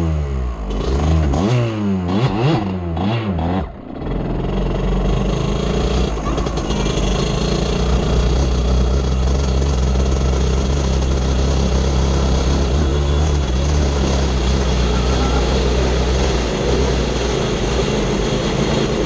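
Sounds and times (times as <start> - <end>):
off-road vehicle engine running: 0.0 - 19.0.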